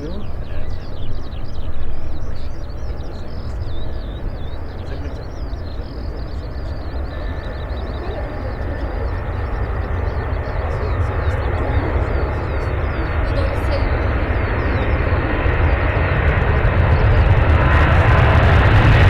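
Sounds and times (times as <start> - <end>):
small birds chirping faintly: 0.0 - 17.9
jet airliner engines rumbling: 0.0 - 19.0.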